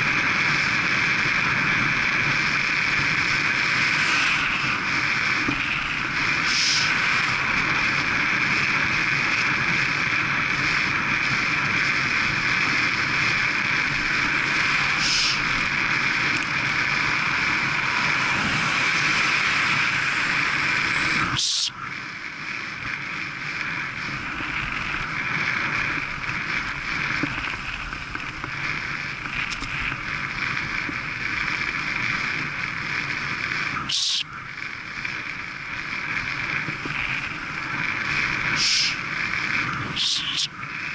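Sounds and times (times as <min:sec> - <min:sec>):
tyres on road: 0:00.0 - 0:40.9
wind rush: 0:00.0 - 0:40.9.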